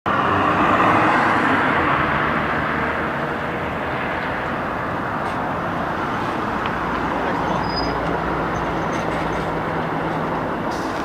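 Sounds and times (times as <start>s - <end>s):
road and tyre noise: 0.1s - 11.0s
bus diesel engine running: 1.4s - 11.0s.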